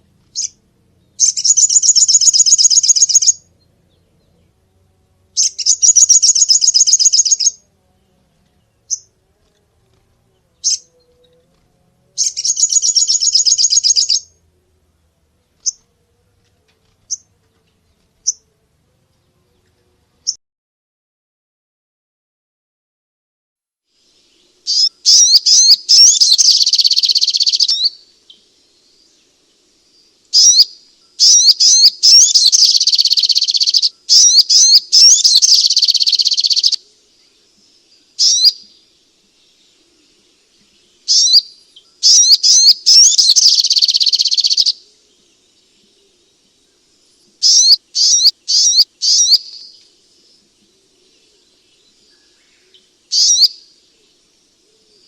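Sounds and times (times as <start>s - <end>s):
bird chirping and trilling: 0.2s - 4.7s, 5.3s - 9.5s, 10.4s - 11.6s, 12.2s - 14.4s, 15.5s - 15.9s, 16.8s - 18.5s, 24.5s - 55.0s.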